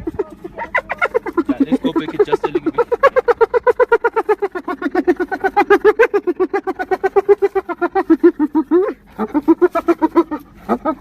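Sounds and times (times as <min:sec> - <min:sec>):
animal short pitched calls: 0:00.0 - 0:11.0.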